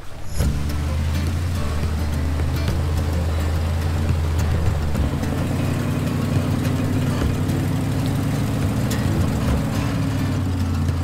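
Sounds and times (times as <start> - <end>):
heavy engine running under load: 0.0 - 11.0.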